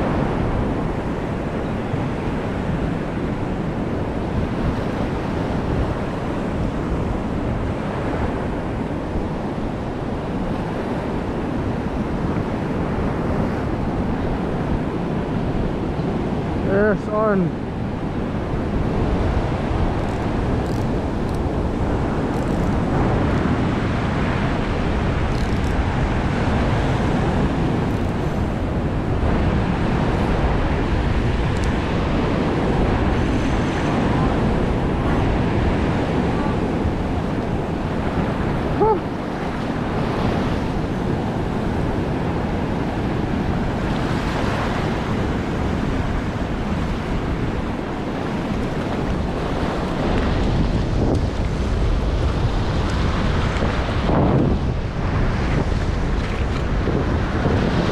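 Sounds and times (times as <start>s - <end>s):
surf breaking on beach: 0.0s - 57.9s
wind buffeting microphone: 0.0s - 57.9s.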